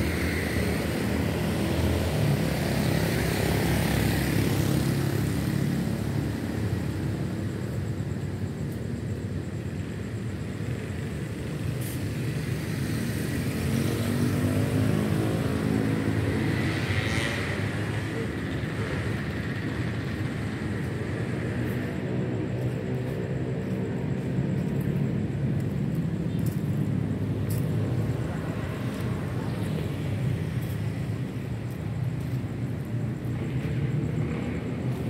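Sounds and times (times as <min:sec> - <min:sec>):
passing vehicle engine hum: 0:00.0 - 0:35.0.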